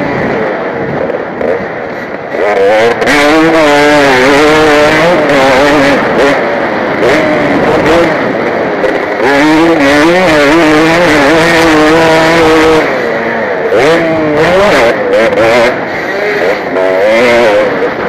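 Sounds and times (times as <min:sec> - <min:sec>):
motocross bike engine revving: 0:00.0 - 0:18.0
rushing wind noise: 0:00.0 - 0:18.0.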